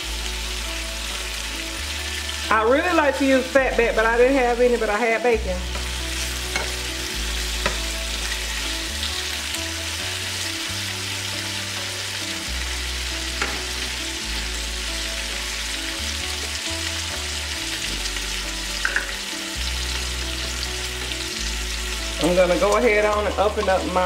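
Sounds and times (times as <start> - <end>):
bacon sizzling in a skillet: 0.0 - 24.0.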